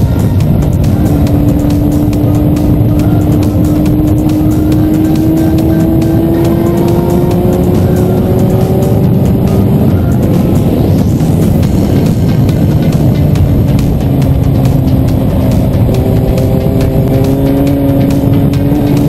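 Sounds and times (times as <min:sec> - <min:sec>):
motorcycle engine accelerating: 0:00.0 - 0:19.0
wind noise: 0:00.0 - 0:19.0.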